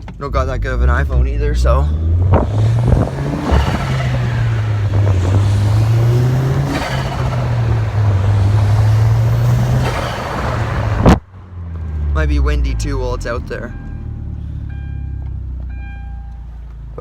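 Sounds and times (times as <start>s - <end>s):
turbocharged car engine pulling: 0.0s - 17.0s.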